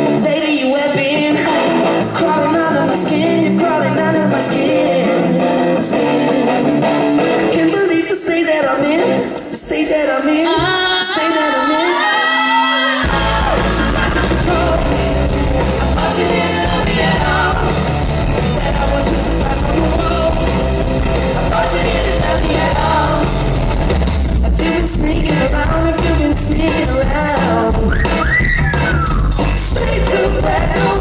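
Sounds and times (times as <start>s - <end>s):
live rock band playing: 0.0s - 9.6s, 13.0s - 31.0s
electric guitar: 0.0s - 31.0s.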